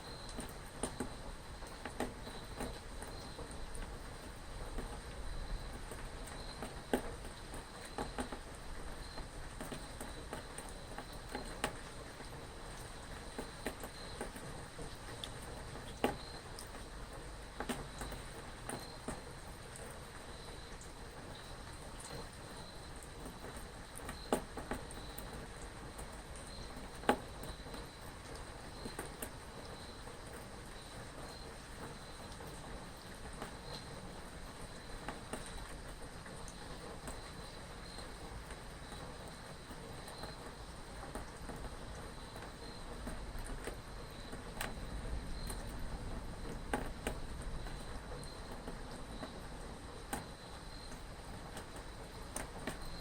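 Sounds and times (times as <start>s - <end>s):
insects chirping: 0.0s - 53.0s
light rain hiss: 0.0s - 53.0s
raindrops tapping: 0.1s - 53.0s.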